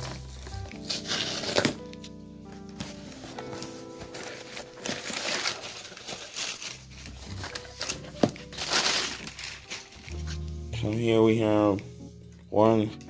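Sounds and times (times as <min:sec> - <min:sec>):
packing paper rustling: 0:00.0 - 0:11.8.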